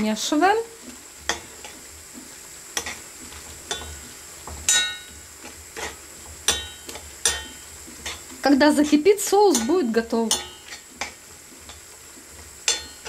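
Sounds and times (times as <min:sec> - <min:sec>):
faint sizzle: 0:00.0 - 0:13.0
spoon scraping and knocking pan: 0:00.8 - 0:13.0.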